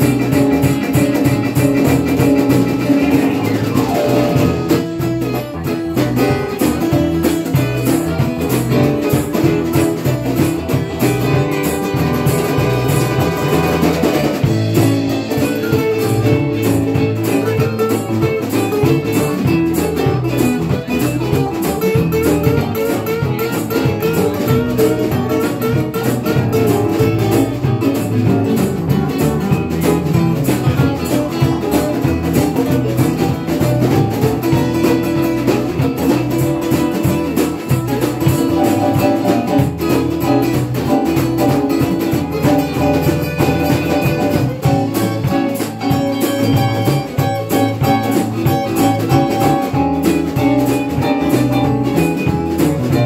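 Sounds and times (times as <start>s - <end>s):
acoustic guitars strumming: 0.0s - 53.0s
keyboard: 0.0s - 53.0s.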